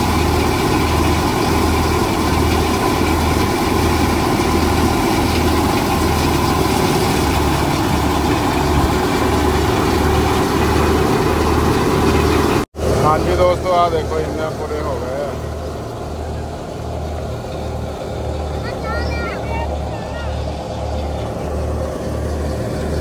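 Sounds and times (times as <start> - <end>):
thresher machine running: 0.0 - 23.0.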